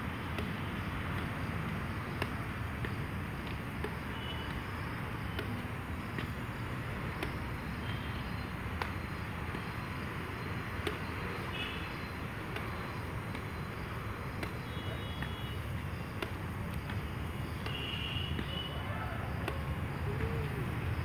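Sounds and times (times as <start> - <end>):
rackets hitting shuttlecock: 0.3 - 18.6, 19.4 - 20.4.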